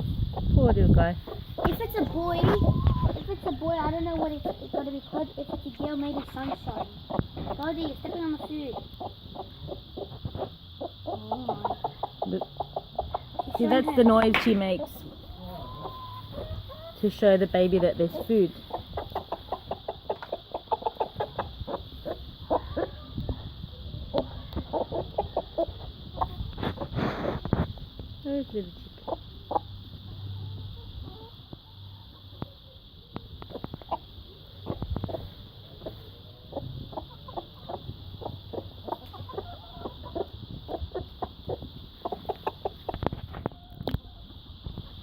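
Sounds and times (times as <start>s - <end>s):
hen clucking: 0.0s - 22.9s, 24.0s - 27.2s, 28.9s - 30.1s, 33.4s - 43.2s.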